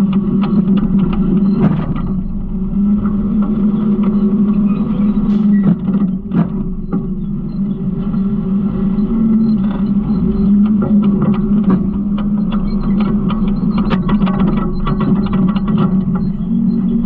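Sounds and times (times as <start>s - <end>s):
garbage truck diesel engine running: 0.0s - 17.0s
sharp knocks and rattles: 0.0s - 17.0s.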